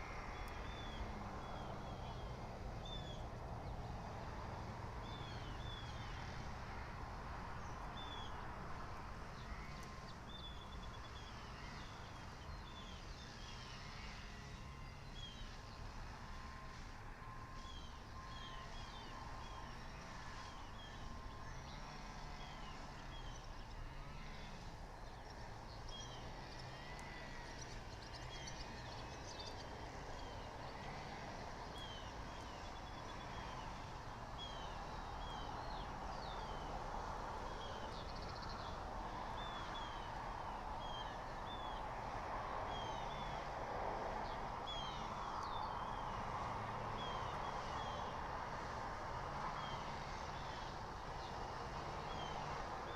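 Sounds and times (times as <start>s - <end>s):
outdoor background noise: 0.0s - 52.9s.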